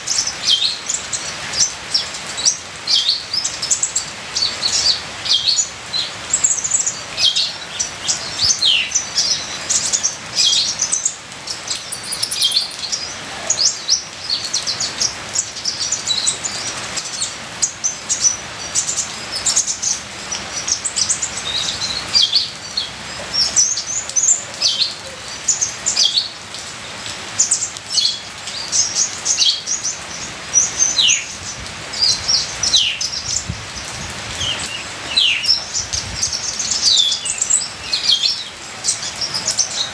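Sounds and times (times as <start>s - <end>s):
bird chirping and twittering: 0.0s - 39.9s
trickling water: 0.0s - 39.9s.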